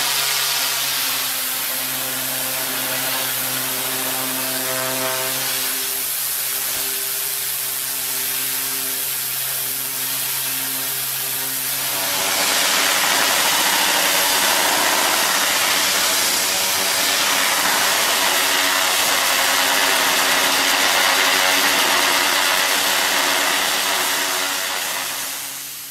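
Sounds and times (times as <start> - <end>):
high-pressure water jet hissing: 0.0 - 25.9
pump engine humming: 0.0 - 25.9.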